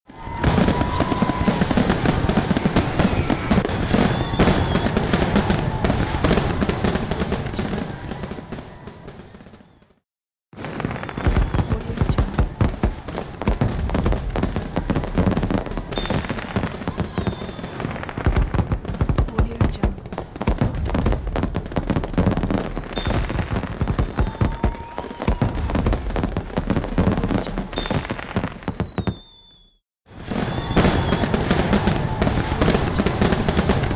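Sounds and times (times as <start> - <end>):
fireworks bangs and crackling: 0.1 - 10.0, 10.6 - 33.9
whistling firework shells: 0.1 - 10.0, 10.6 - 33.9.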